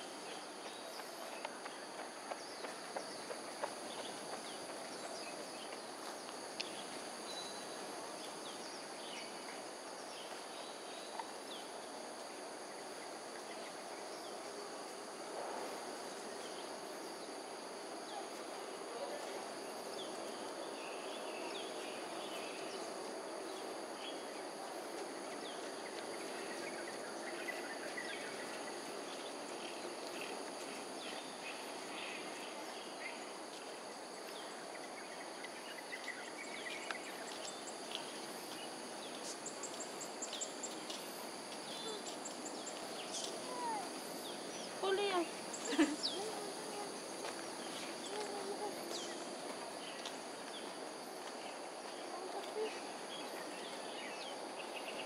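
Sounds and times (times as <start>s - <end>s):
background hum: 0.0s - 55.0s
high insect drone: 0.0s - 55.0s.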